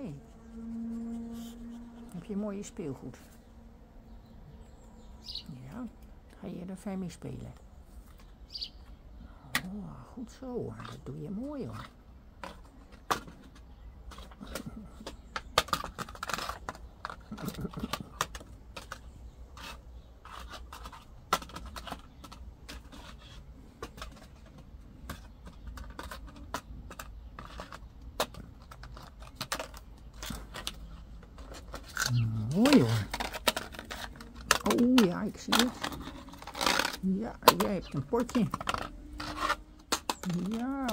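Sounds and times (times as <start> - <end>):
plastic pot clicks and scrapes: 7.3 - 40.9.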